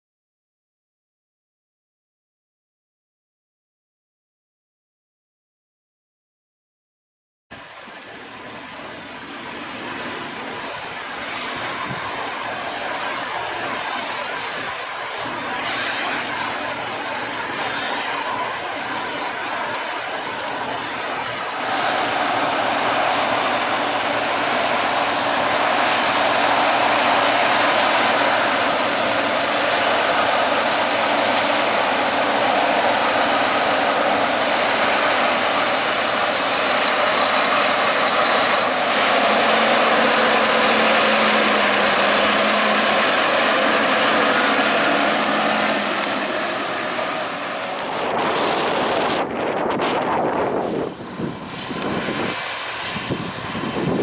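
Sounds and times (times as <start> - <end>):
faint whine: 7.6 - 54.0
harvest machinery running: 7.6 - 54.0.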